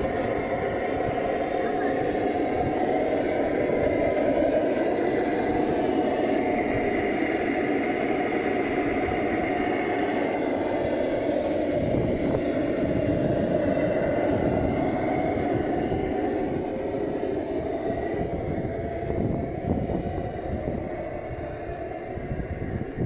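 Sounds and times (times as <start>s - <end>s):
single-cylinder engine idling: 0.0s - 23.0s.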